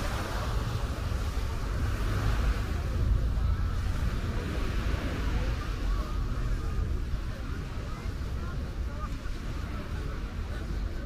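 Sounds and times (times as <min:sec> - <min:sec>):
faint chatter of people: 0:00.0 - 0:11.0
wind buffeting microphone: 0:00.0 - 0:11.0.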